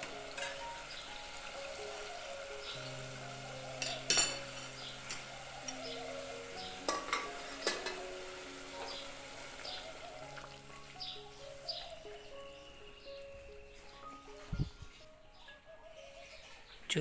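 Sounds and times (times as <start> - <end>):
curry simmering and sizzling: 0.0 - 14.3.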